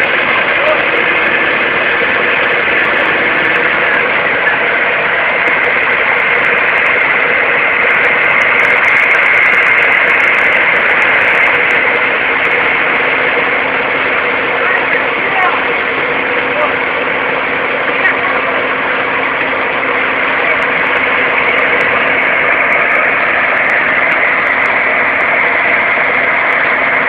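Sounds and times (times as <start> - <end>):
diesel engines idling: 0.0 - 27.0.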